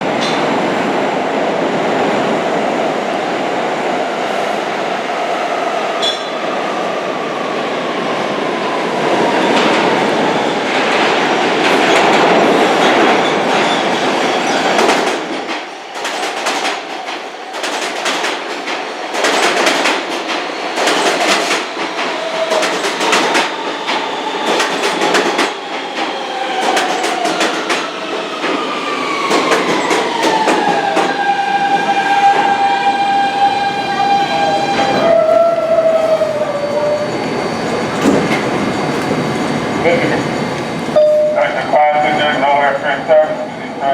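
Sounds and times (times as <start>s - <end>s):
subway train rumble: 0.0s - 43.9s.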